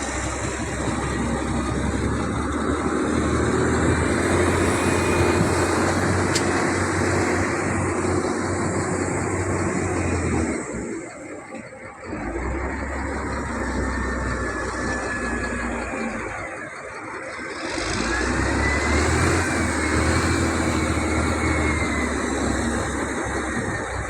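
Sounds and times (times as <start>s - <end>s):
heavy equipment engine running: 0.0s - 24.0s.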